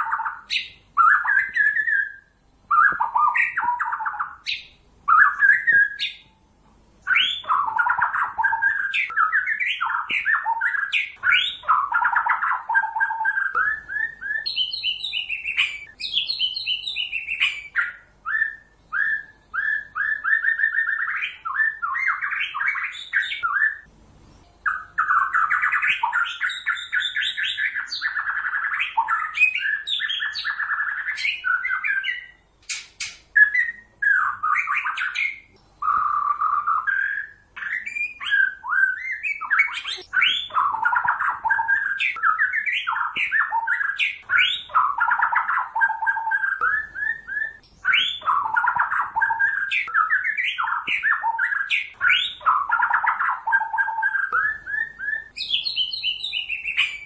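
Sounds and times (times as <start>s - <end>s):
songbird singing trills: 0.0s - 57.0s.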